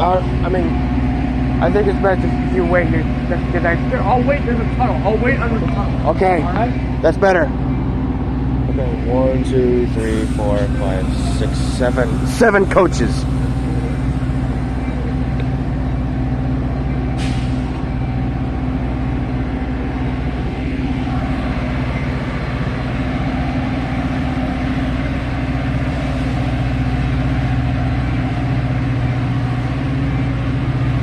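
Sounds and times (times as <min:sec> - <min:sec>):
diesel locomotive running: 0:00.0 - 0:31.0.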